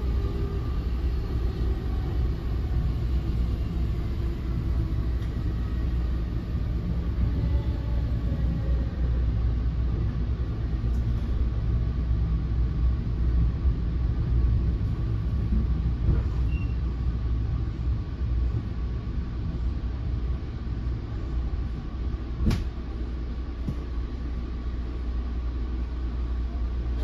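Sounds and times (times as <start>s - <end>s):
train coach rumble: 0.0s - 27.0s.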